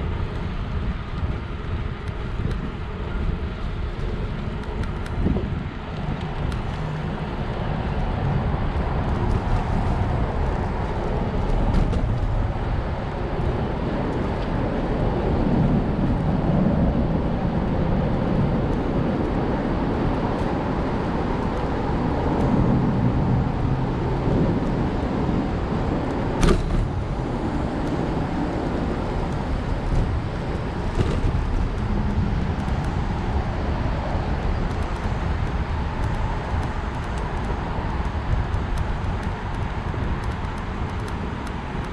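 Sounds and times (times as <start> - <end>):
road noise: 0.0 - 41.9
wind rumble: 0.0 - 41.9.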